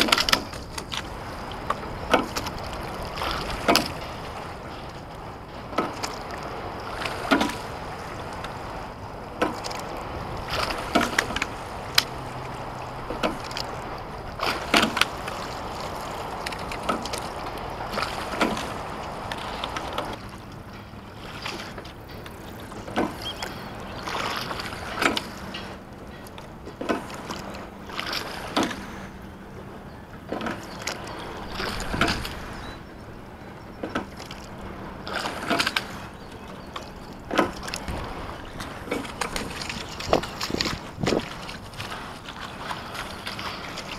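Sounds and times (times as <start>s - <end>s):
oars knocking: 0.0s - 4.9s, 5.5s - 28.9s, 30.2s - 32.7s, 33.8s - 43.9s
water rushing along hull: 0.0s - 43.9s.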